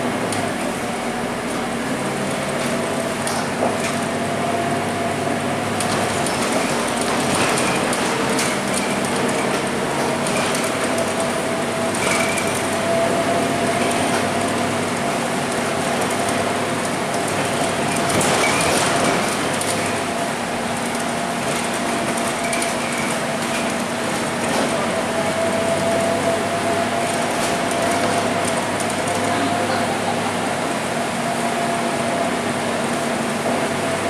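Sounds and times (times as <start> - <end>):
bus diesel engine whining: 0.0 - 34.0.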